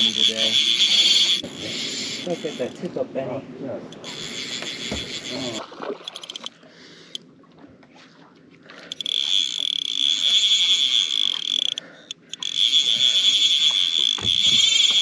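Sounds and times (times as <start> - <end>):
fishing reel drag buzzing: 0.0 - 3.0, 3.9 - 7.2, 8.8 - 15.0.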